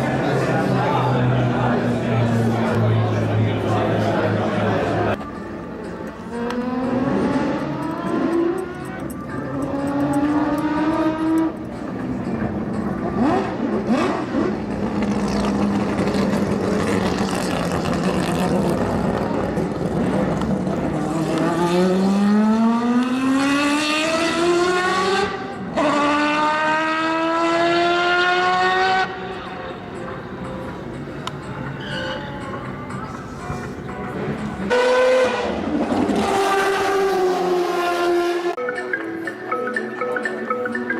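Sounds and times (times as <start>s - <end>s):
race car engines accelerating: 0.0s - 38.6s.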